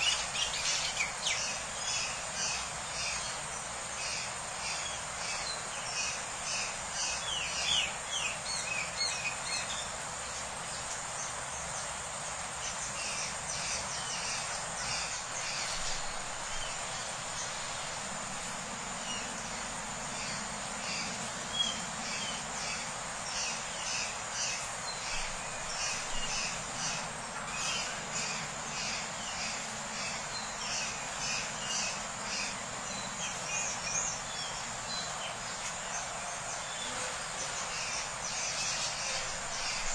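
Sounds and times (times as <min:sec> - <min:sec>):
insects buzzing: 0:00.0 - 0:39.9
small birds chirping: 0:00.0 - 0:39.9.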